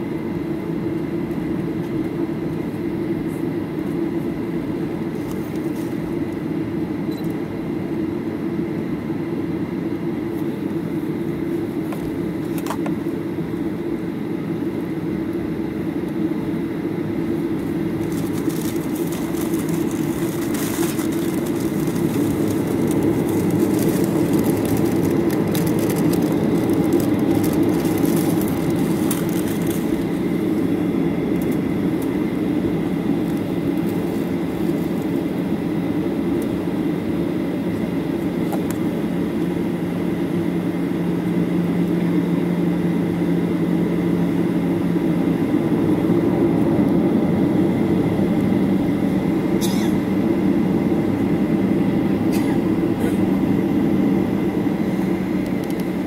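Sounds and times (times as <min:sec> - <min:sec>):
airplane cabin rumble: 0:00.0 - 0:56.0
faint steady whine: 0:00.0 - 0:56.0.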